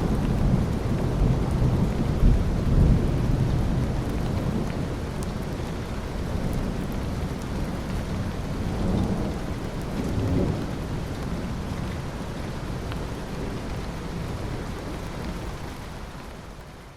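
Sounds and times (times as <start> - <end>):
low rolling thunder: 0.0 - 5.6, 6.2 - 15.6
steady rain: 0.0 - 16.9.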